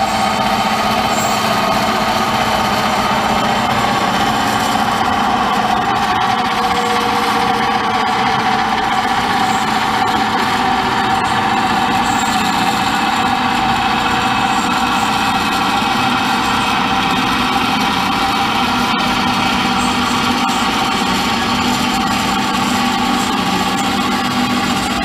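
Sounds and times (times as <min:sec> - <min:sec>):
band saw cutting metal: 0:00.0 - 0:25.0.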